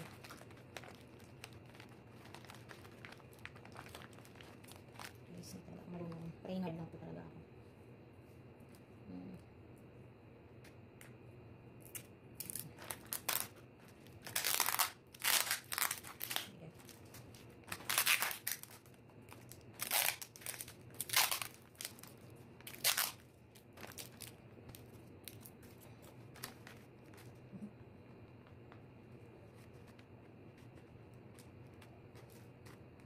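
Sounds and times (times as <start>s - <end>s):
foil wrapping paper crinkling: 0.0s - 6.2s, 12.4s - 33.0s.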